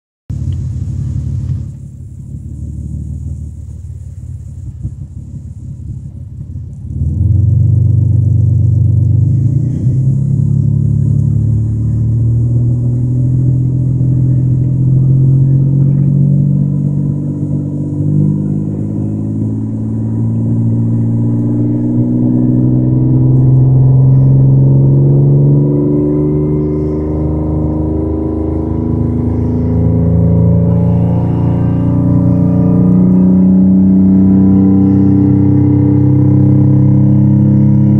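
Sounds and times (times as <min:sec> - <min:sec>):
exhaust leak noise: 0:00.3 - 0:31.2
car engine revving: 0:00.3 - 0:37.9.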